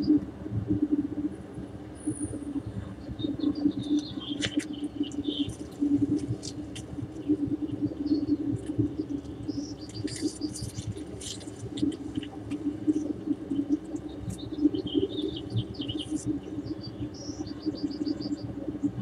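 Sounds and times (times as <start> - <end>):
steady low hum: 0.0 - 19.0
small birds chirping: 3.1 - 18.5.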